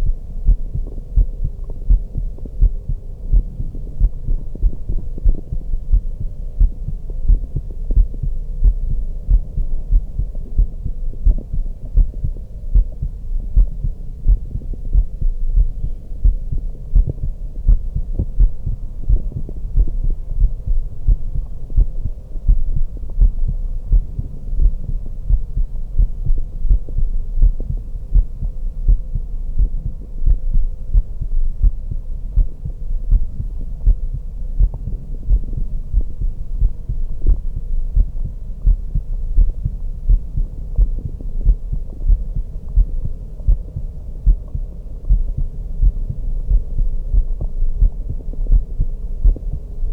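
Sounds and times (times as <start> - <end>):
heartbeat through stethoscope: 0.0 - 49.9.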